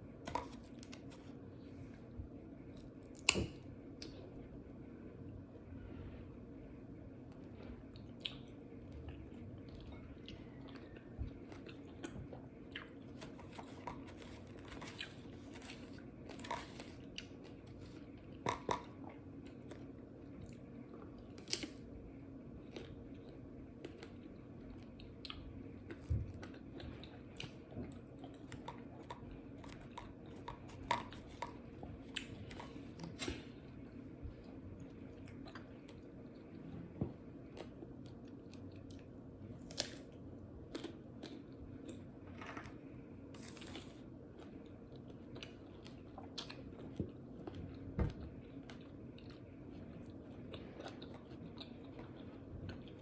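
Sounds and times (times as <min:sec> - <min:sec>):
steady low hum: 0:00.0 - 0:53.0
person chewing crunchy food: 0:07.4 - 0:21.8, 0:22.5 - 0:42.2, 0:43.3 - 0:53.0.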